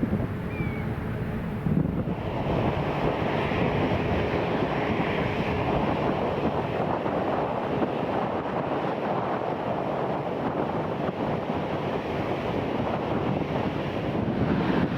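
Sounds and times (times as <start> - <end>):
airliner jet engines: 0.0 - 14.9
wind buffeting microphone: 0.0 - 14.9.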